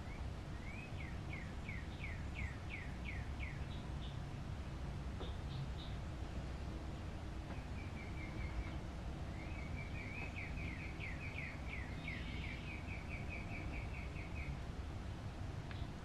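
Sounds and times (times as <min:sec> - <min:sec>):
small songbird singing: 0:00.0 - 0:16.0
steady low hum: 0:00.0 - 0:16.0.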